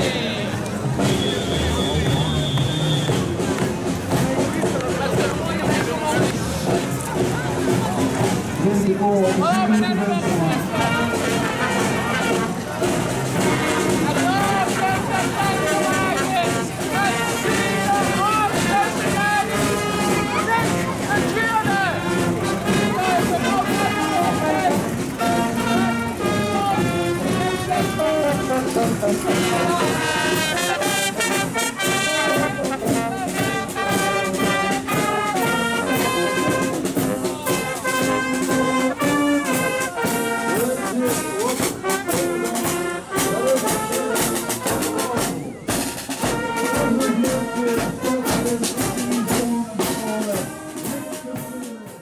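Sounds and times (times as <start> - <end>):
brass band playing: 0.0 - 52.0.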